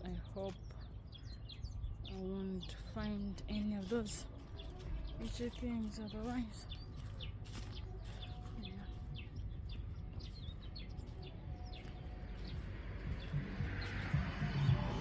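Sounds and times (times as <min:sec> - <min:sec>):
low background rumble: 0:00.0 - 0:15.0
wild birds chirping: 0:00.0 - 0:15.0.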